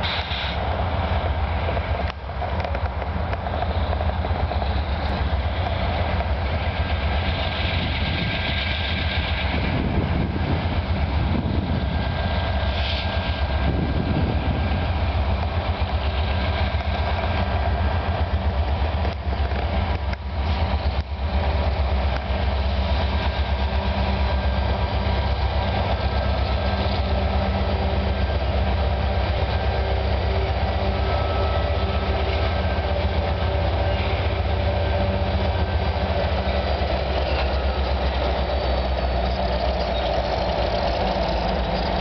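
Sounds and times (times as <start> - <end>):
diesel locomotive rumble: 0.0 - 42.0.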